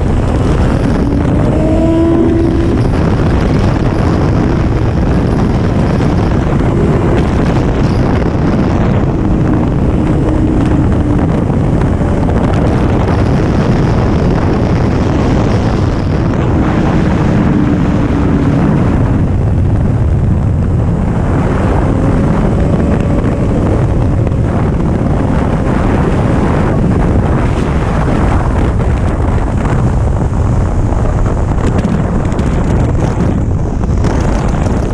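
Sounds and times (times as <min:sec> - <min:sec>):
motorcycle engine revving: 0:00.0 - 0:29.8
wind buffeting microphone: 0:00.0 - 0:34.9.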